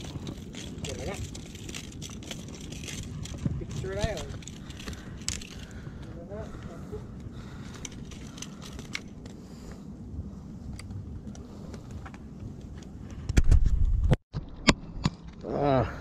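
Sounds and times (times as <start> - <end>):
wind rumble on microphone: 0.0 - 15.2.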